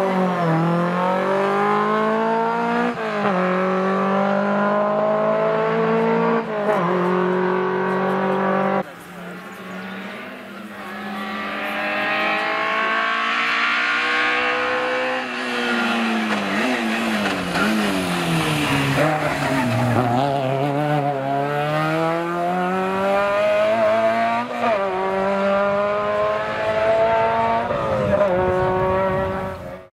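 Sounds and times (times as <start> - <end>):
rally car engine revving: 0.0 - 29.9.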